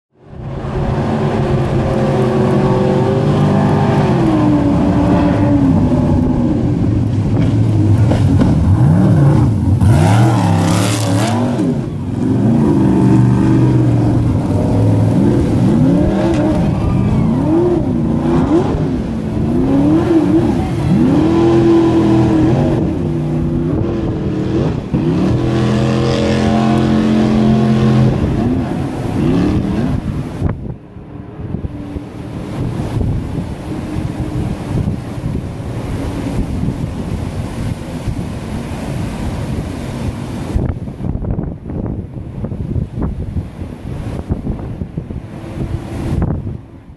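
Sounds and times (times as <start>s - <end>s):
jet boat engine running hard: 0.1s - 46.9s.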